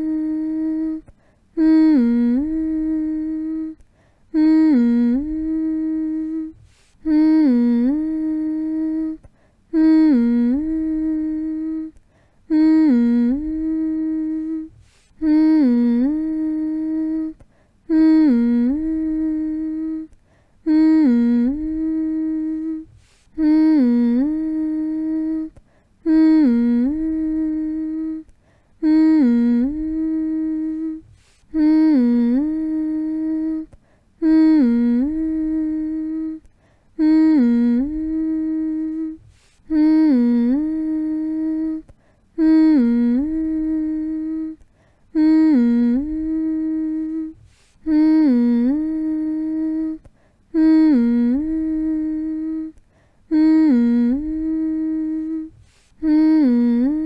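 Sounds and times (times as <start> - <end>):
person humming a low phrase: 0.0 - 57.0.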